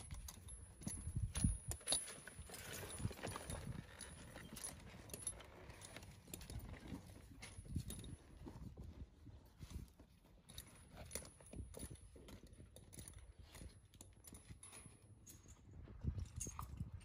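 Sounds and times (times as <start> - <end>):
saddle knocks and thumps: 0.0 - 15.0
buckles and stirrup hardware clinking: 0.0 - 17.0.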